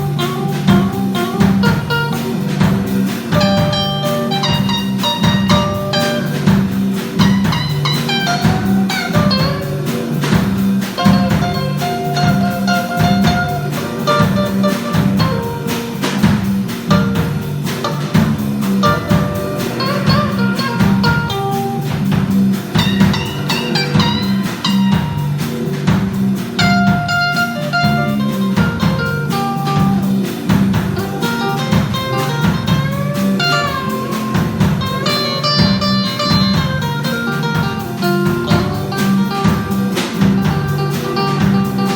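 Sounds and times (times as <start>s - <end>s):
bass line: 0.0s - 41.9s
drum kit beat: 0.0s - 41.9s
guitar melody: 0.0s - 41.9s.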